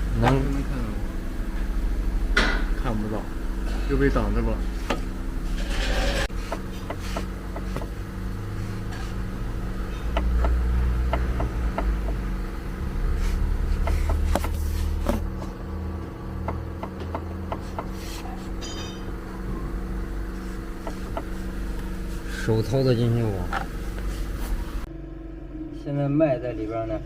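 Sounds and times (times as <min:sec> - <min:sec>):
low rumble: 0:00.0 - 0:17.6, 0:18.3 - 0:27.0
low mechanical hum: 0:00.0 - 0:27.0.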